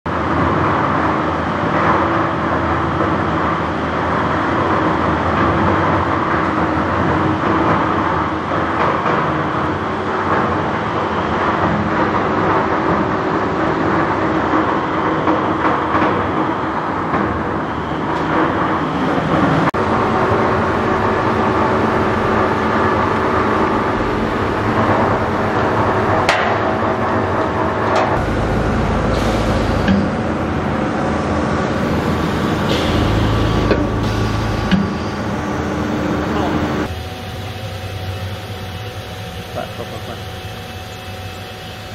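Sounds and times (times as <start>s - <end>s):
machine running with steady hum: 0.1s - 41.9s.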